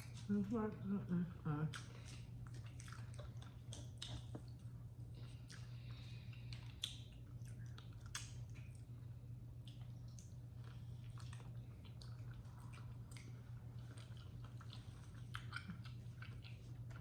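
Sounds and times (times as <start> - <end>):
chewing with wet mouth clicks: 1.7 - 17.0.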